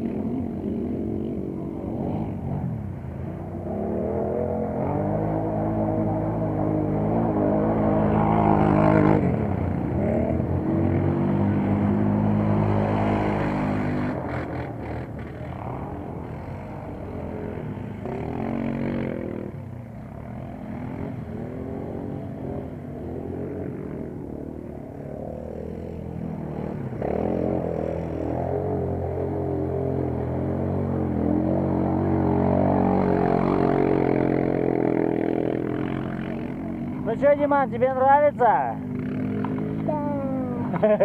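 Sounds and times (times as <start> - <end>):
quad bike engines revving: 0.0 - 41.0.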